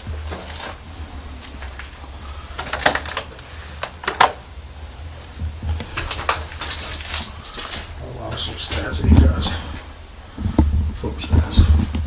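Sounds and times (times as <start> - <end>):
footsteps crunching over debris: 0.0 - 12.0
low steady rumble: 0.0 - 12.0.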